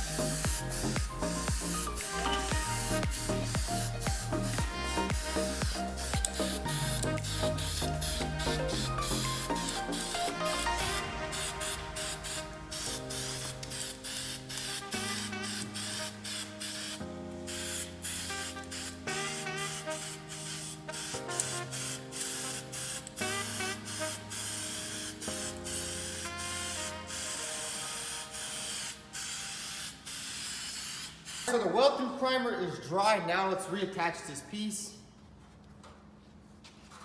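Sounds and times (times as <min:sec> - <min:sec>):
background music: 0:00.0 - 0:30.1
aerosol can spraying: 0:00.0 - 0:31.6.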